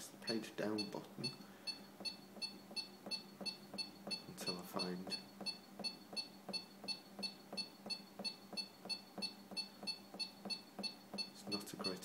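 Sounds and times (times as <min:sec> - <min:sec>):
two-tone key beeps: 0:00.3 - 0:12.0.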